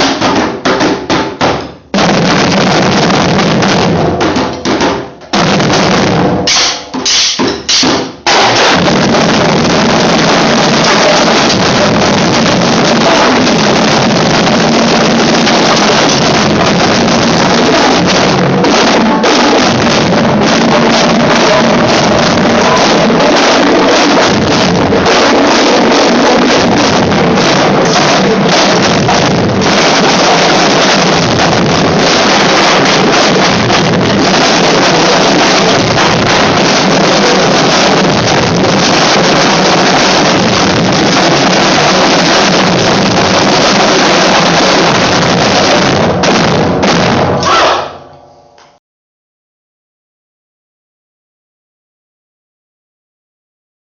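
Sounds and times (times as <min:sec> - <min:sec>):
percussion ensemble drumming: 0:00.0 - 0:48.0.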